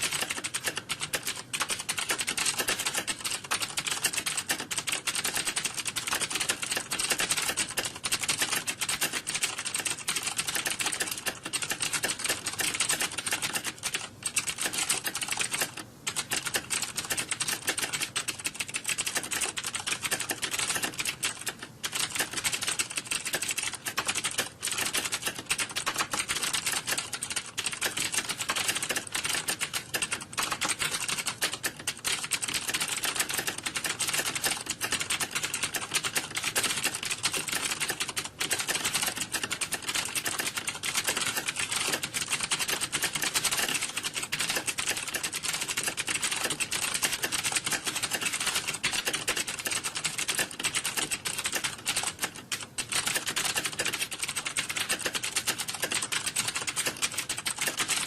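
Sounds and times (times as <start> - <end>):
keyboard typing: 0.0 - 58.0.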